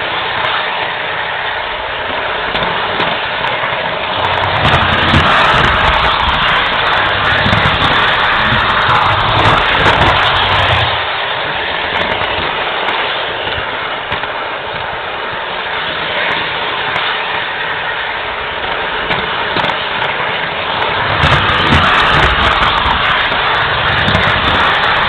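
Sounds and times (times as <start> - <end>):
model train rattling hiss: 0.0 - 25.0.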